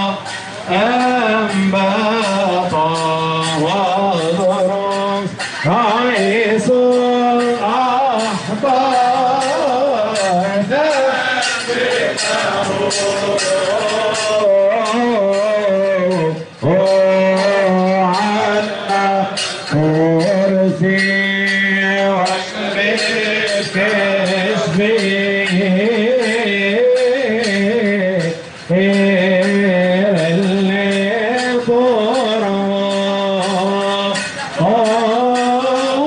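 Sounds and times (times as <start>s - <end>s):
percussion strokes: 0.0s - 36.0s
voices singing a hymn: 0.0s - 36.0s.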